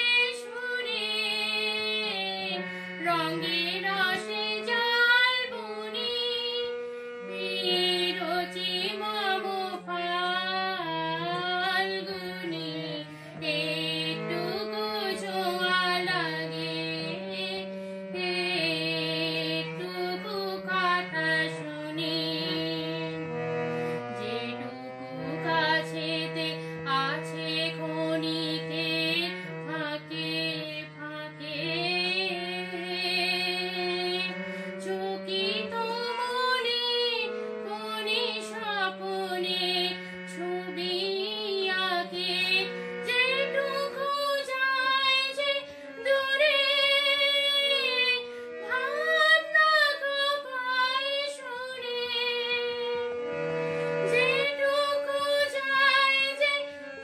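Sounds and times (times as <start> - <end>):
woman singing: 0.0 - 23.3, 24.0 - 53.2, 54.0 - 57.0
harmonium sustained notes: 0.0 - 57.0.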